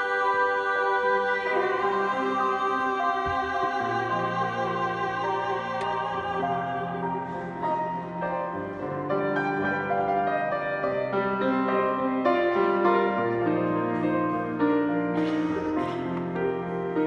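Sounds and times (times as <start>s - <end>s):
grand piano playing chords: 0.0s - 17.0s.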